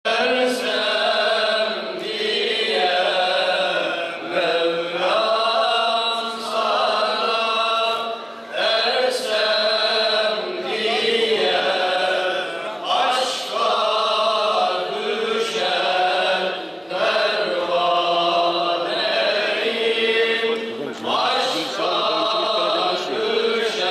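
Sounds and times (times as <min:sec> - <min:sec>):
men singing a hymn: 0:00.1 - 0:23.9.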